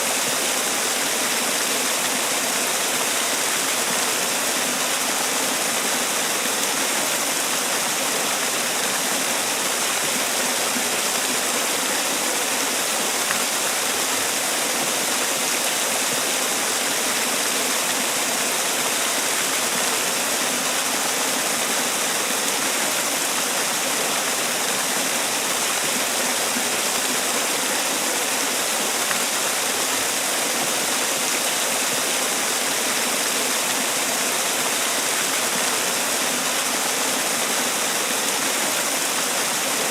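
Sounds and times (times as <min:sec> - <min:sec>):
waterfall splashing: 0:00.0 - 0:39.9.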